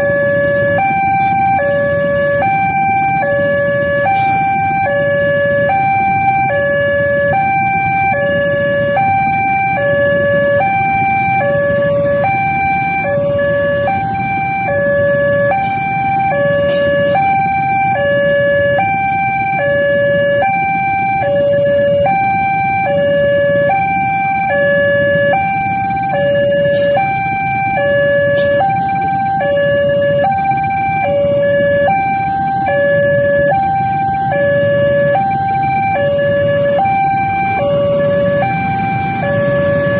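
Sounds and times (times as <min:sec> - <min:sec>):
motorcycle engines idling: 0:00.0 - 0:39.9
two-tone crossing alarm: 0:00.0 - 0:39.9.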